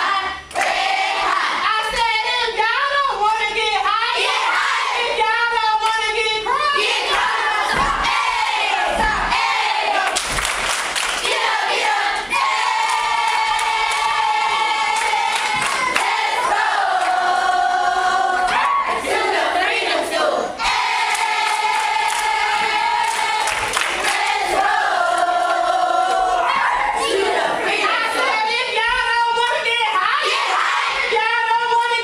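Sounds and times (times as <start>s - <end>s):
group singing long held notes: 0.0s - 1.7s, 4.0s - 5.6s, 6.4s - 28.7s, 30.0s - 31.2s.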